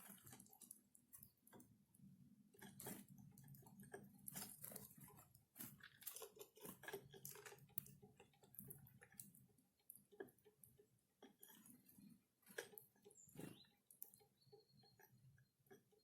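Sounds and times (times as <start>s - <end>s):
birds pecking and cracking seed: 0.0s - 16.0s.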